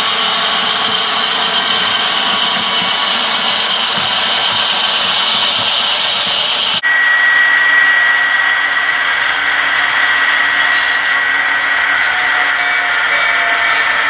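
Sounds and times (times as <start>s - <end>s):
high-pitched motor whine: 0.0s - 14.0s
model locomotives running: 0.0s - 14.0s.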